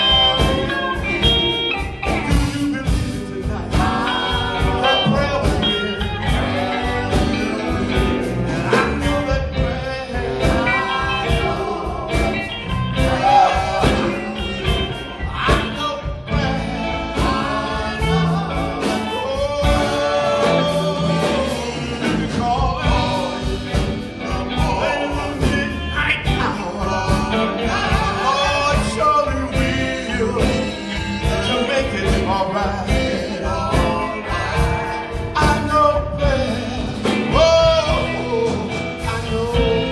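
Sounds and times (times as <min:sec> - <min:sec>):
drum kit: 0:00.0 - 0:39.9
electric guitars: 0:00.0 - 0:39.9
voices singing: 0:00.0 - 0:39.9.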